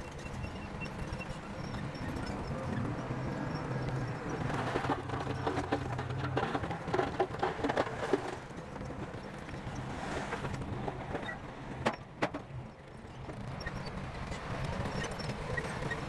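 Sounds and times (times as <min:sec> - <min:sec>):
heavy earthmoving machine rumbling: 0:00.0 - 0:16.0.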